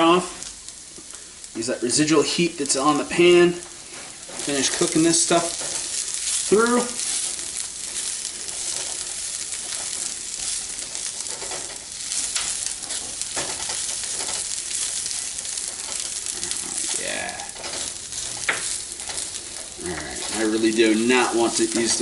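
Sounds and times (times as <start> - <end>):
onions sizzling in a frying pan: 0.0 - 22.0
utensil scraping a pan: 3.6 - 22.0.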